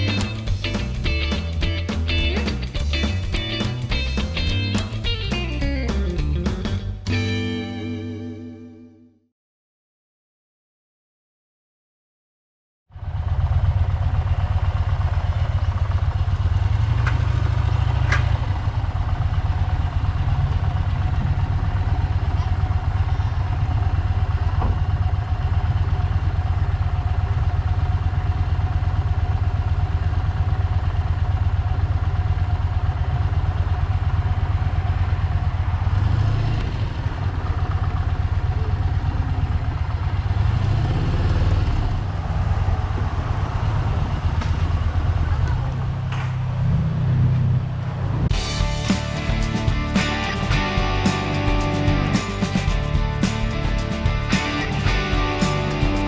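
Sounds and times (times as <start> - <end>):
motorcycle engine running: 0.0 - 7.6, 12.9 - 46.0, 48.3 - 56.0.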